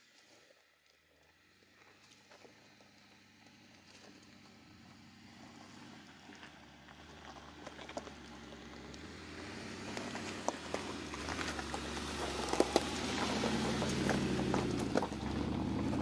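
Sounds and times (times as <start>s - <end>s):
tyres crunching over gravel: 0.1s - 16.0s
car engine running low: 1.5s - 16.0s.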